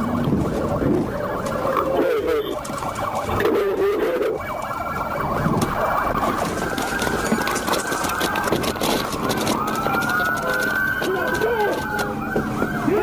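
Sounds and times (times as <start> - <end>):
police siren wailing: 0.0 - 13.0
vehicle and road noise: 0.0 - 13.0.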